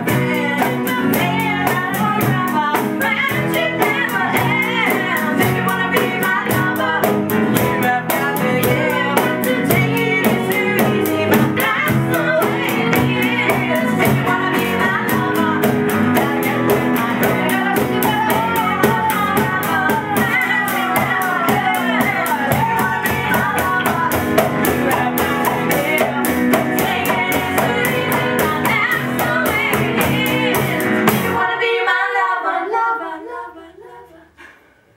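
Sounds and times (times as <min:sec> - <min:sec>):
live pop-rock band with vocals: 0:00.0 - 0:34.6.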